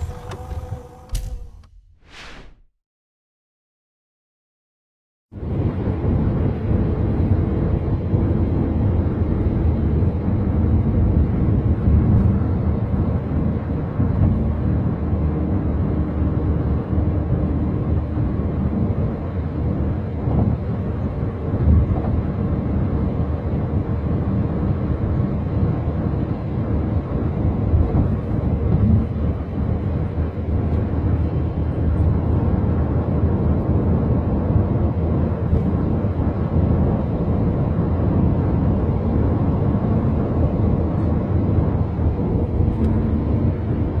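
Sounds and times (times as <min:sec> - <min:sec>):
car cabin road rumble: 0:00.0 - 0:02.6, 0:05.4 - 0:44.0.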